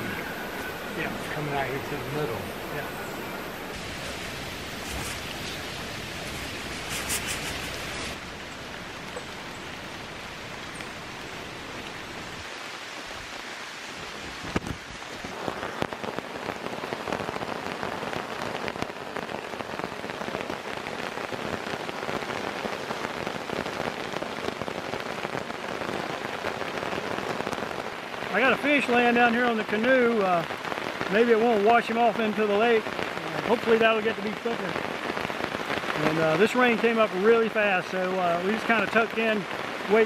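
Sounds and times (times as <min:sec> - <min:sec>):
rain hissing: 0:00.0 - 0:40.0
rain pattering on a tarp: 0:00.0 - 0:40.0.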